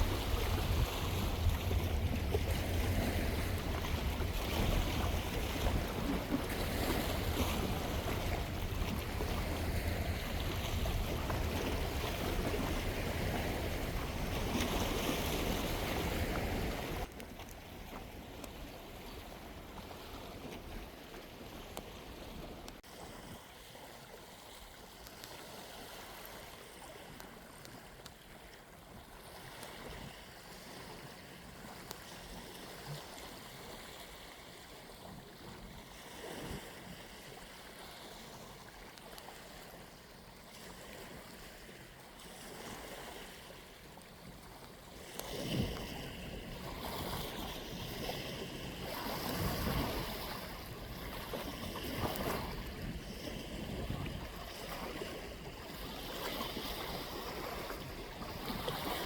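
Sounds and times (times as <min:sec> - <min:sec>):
rushes of water: 0:00.0 - 0:59.0
seawater lapping and sloshing: 0:00.0 - 0:59.0.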